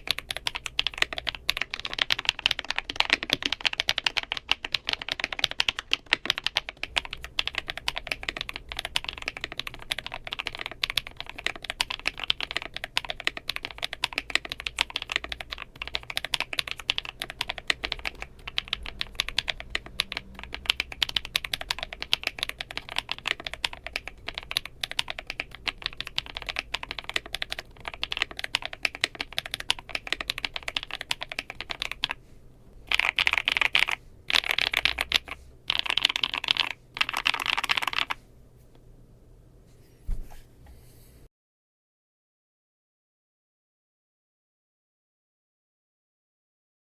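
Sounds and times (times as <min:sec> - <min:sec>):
mechanical keyboard typing: 0:00.0 - 0:32.2, 0:32.8 - 0:38.2.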